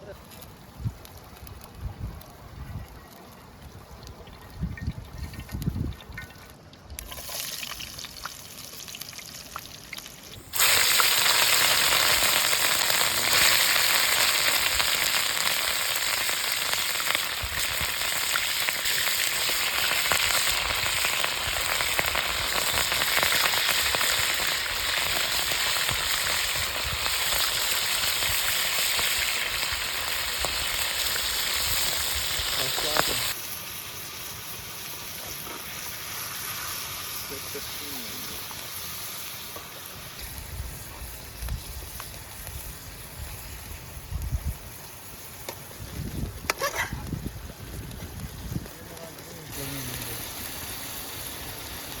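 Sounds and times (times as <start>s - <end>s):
food sizzling in hot oil: 4.3s - 52.0s.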